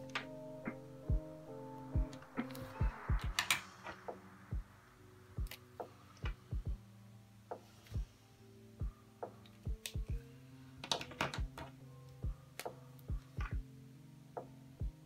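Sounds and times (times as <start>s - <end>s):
lo-fi hip hop music: 0.0s - 15.0s.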